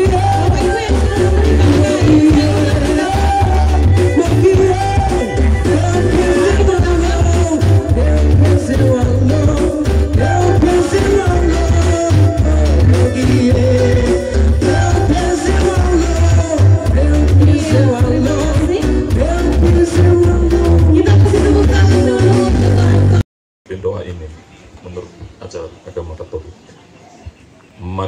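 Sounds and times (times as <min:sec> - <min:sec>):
heavy bass beat: 0:00.0 - 0:23.2
sung melody: 0:00.0 - 0:23.2.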